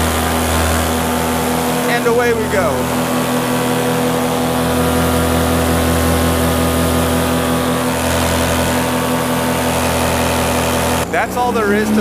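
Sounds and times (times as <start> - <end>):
paramotor engine and propeller: 0.0 - 12.0.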